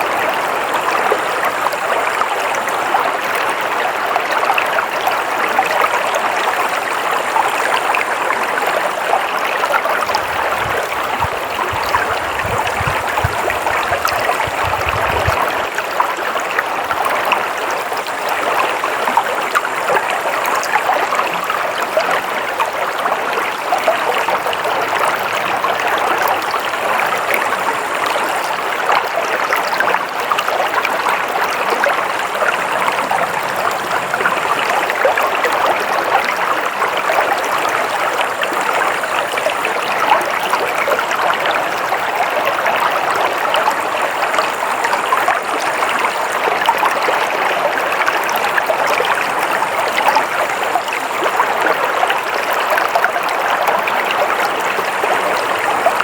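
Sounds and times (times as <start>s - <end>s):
stream water rushing and babbling: 0.0s - 56.0s.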